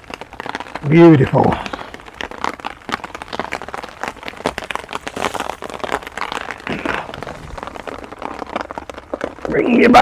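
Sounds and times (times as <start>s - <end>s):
heavy rain on a tarp: 0.0s - 10.0s.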